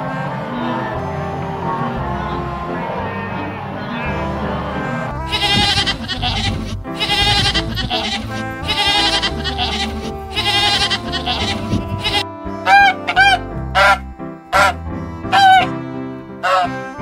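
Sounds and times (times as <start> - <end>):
background music: 0.0 - 17.0
goats bleating: 1.9 - 15.7.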